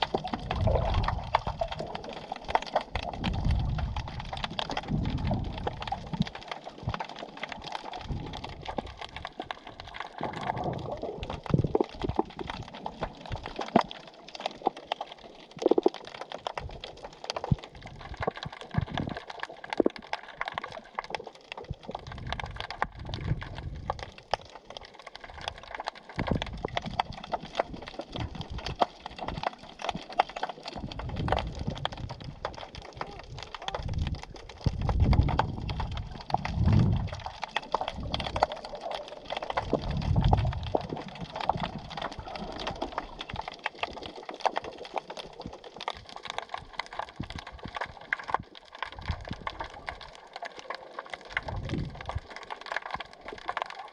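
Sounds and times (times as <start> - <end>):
underwater crackle of clicks: 0.0 - 53.9.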